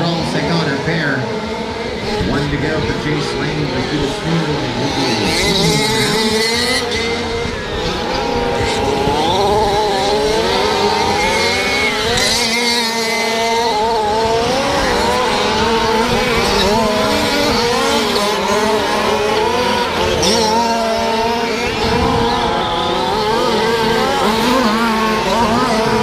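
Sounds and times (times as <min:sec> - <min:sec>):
rc truck engines revving: 0:00.0 - 0:26.0.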